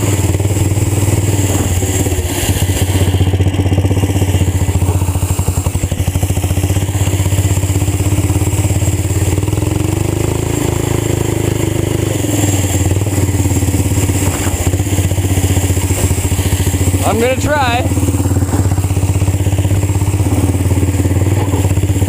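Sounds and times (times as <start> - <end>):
tractor engine exhaust pops: 0.0 - 22.0.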